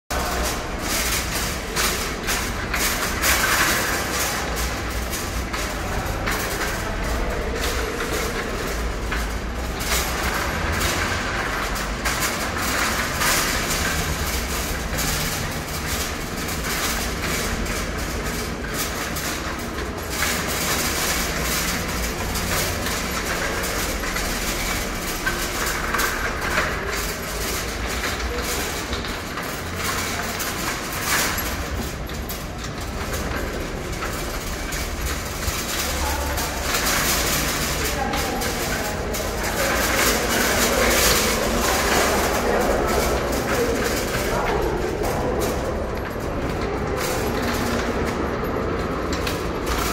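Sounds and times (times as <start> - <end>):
trolley wheels rumbling on tiles: 0.1 - 49.9
wire basket rattling: 0.1 - 49.9.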